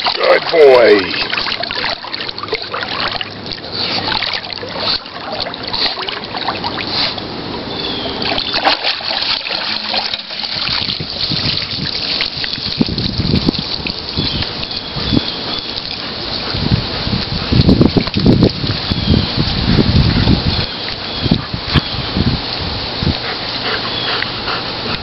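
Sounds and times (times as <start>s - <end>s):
water running off dog: 0.0s - 25.0s
water splashing: 0.0s - 25.0s.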